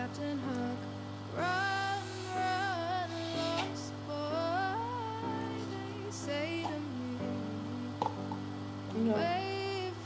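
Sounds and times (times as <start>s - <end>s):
low held accompaniment: 0.0s - 10.0s
person singing slow song: 0.0s - 10.0s.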